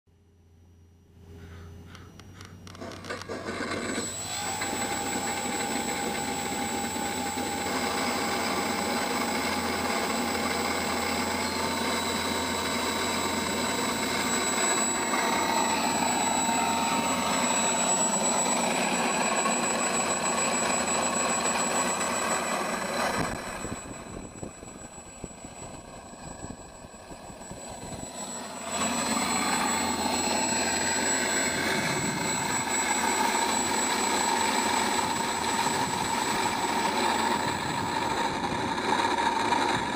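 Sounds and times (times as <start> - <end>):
simulated aircraft engine sound: 0.4 - 39.9.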